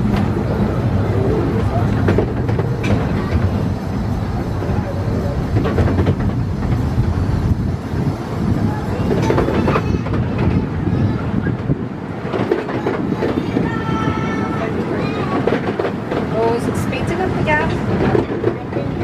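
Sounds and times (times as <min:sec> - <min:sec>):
small train rumbling on track: 0:00.0 - 0:19.0
wheels clicking over rail joints: 0:00.0 - 0:19.0.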